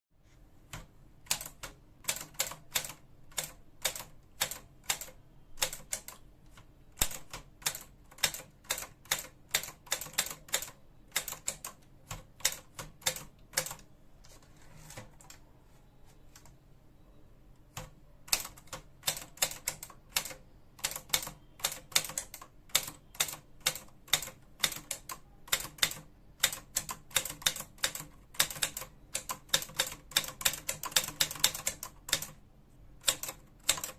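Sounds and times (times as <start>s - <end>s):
typewriter keystrokes clacking: 0.7s - 6.2s, 7.0s - 13.8s, 17.8s - 32.4s, 33.0s - 33.9s.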